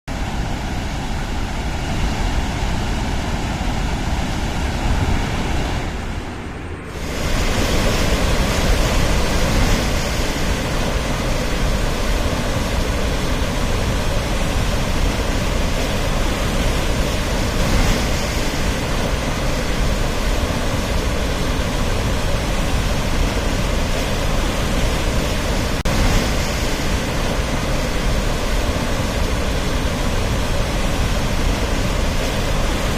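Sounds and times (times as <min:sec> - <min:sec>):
floodwater rushing: 0:00.1 - 0:32.9.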